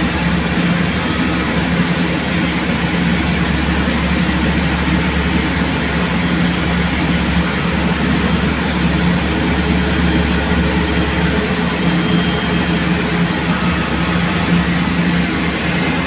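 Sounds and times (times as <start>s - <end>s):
loud engine hum: 0.0s - 16.0s.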